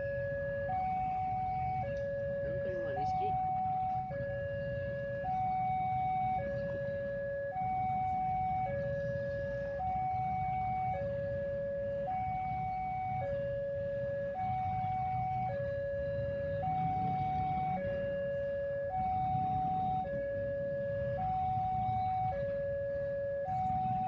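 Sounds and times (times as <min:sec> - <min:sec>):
two-tone crossing alarm: 0:00.0 - 0:24.0.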